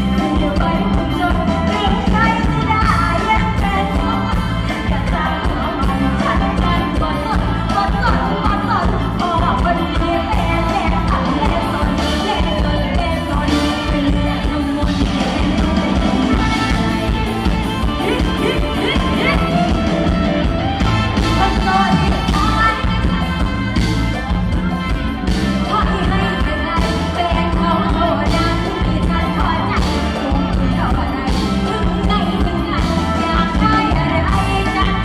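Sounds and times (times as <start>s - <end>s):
person singing: 0.0s - 35.0s.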